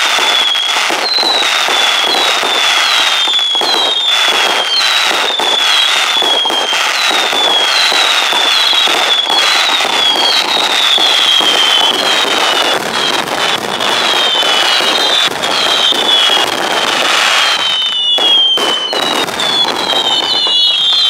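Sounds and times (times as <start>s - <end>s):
firework crackling and pops: 0.0s - 21.0s
firework whistles falling: 0.0s - 21.0s.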